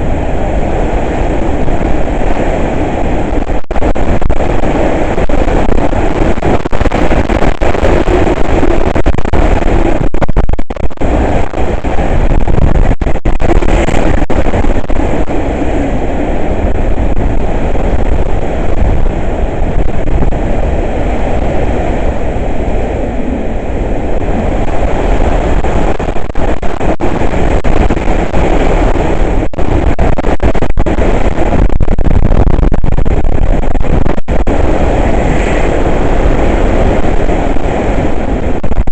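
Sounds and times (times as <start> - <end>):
strong wind rumble: 0.0 - 38.9.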